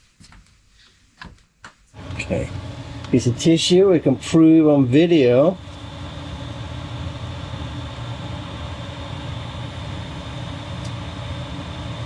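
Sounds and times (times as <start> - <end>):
heater fan hum: 0.2 - 12.0
thin high whine: 2.0 - 12.0.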